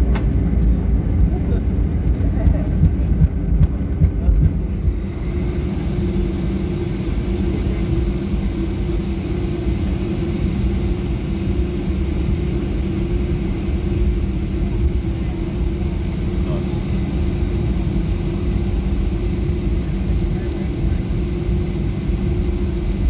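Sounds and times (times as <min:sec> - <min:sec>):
airplane engines and wheels rumbling: 0:00.0 - 0:23.0.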